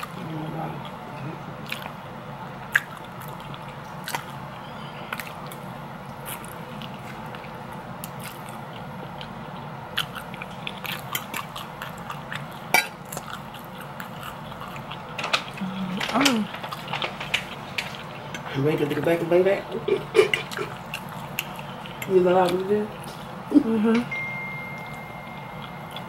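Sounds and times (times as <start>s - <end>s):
person chewing food: 0.0s - 23.5s, 24.5s - 26.0s.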